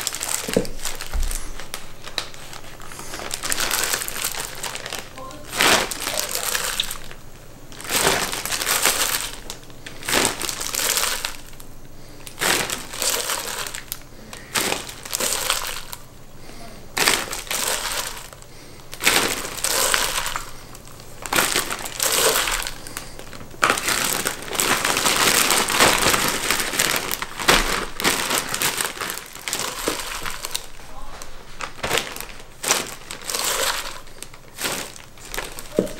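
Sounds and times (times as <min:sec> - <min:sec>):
plastic bag and glove crinkling: 0:00.0 - 0:35.9.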